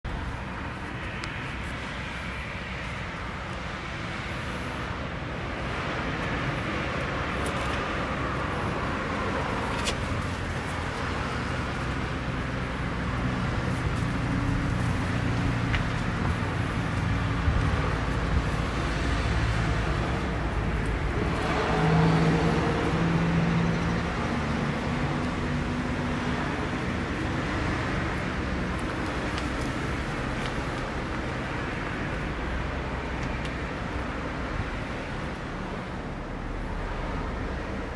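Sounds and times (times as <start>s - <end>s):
rumble of passing vehicles: 0.0s - 37.9s
low engine hum: 0.1s - 37.9s.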